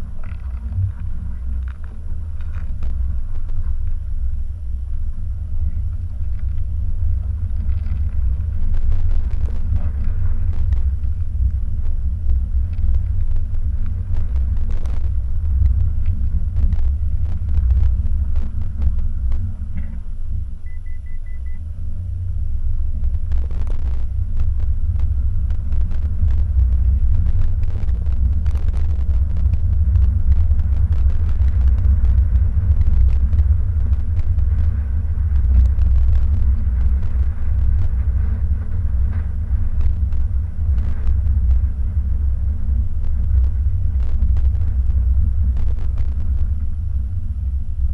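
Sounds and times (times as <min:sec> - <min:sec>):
small clicks and crackles: 0:00.0 - 0:20.8, 0:22.7 - 0:47.9
road and tyre noise: 0:00.0 - 0:47.9.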